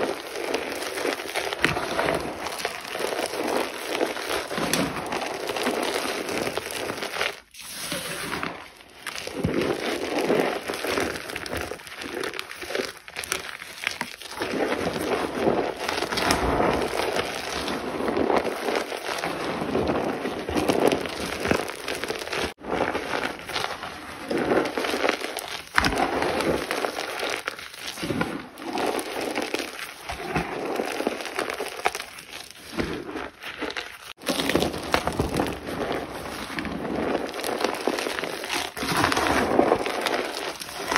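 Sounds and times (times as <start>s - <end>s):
brittle material crunching: 0.0s - 40.9s.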